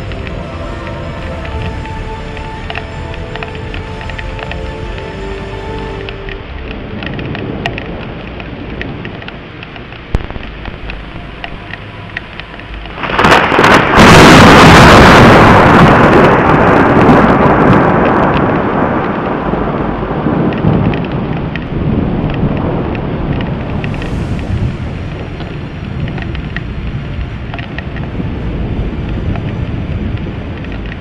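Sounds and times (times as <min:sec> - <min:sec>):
steady rain: 0:00.0 - 0:31.0
thunder peal rolling: 0:00.0 - 0:31.0.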